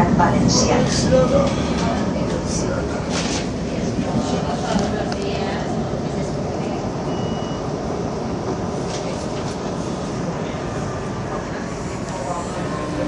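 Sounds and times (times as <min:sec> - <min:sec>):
train wheels and motors rumbling: 0:00.0 - 0:13.0.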